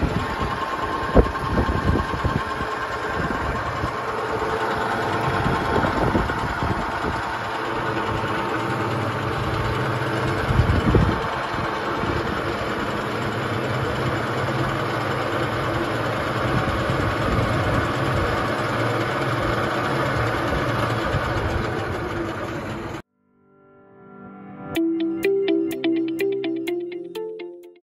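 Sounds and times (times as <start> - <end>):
milling machine humming: 0.0 - 23.0.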